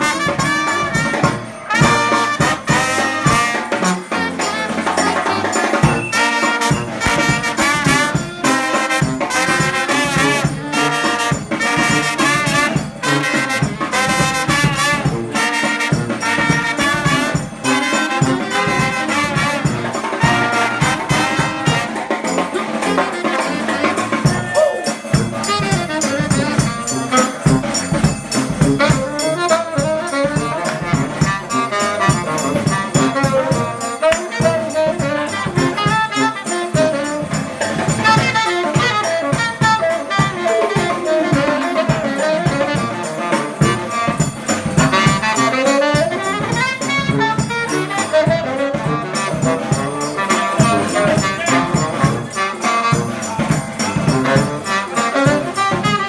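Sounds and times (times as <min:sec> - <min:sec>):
drums keeping a beat: 0:00.0 - 0:56.0
trumpets and trombones: 0:00.0 - 0:56.0
tuba bass line: 0:00.0 - 0:56.0.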